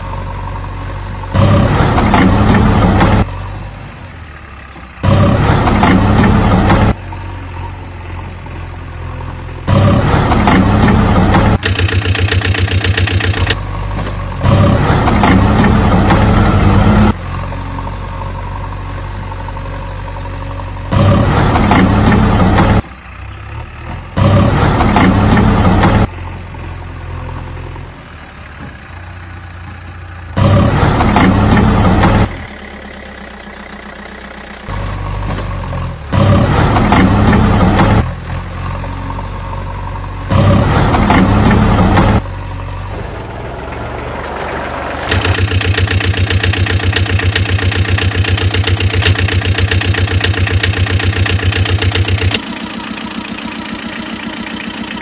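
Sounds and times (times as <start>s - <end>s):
vehicle engine idling and revving: 0.0s - 55.0s.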